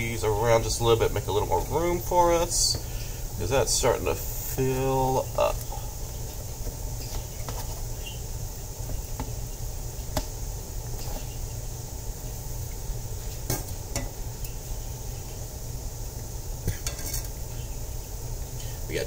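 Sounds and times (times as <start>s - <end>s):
water boiling in a pot: 0.0s - 19.0s.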